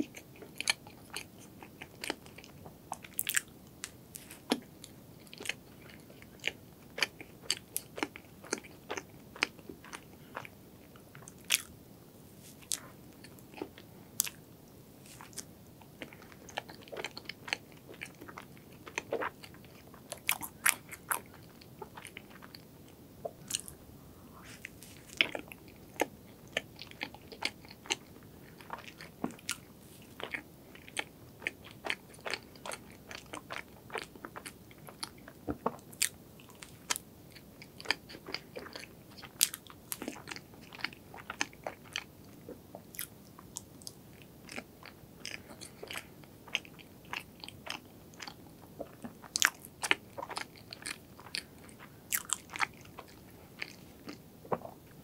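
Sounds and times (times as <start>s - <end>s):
dessert being bitten and chewed: 0.0s - 11.8s, 12.5s - 14.5s, 15.1s - 23.8s, 24.4s - 55.0s.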